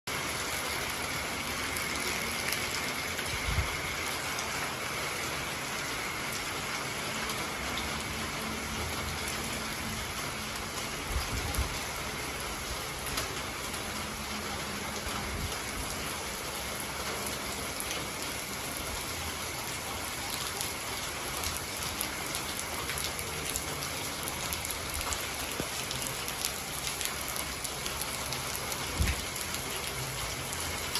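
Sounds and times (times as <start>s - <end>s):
rain on paved ground: 0.1s - 30.9s.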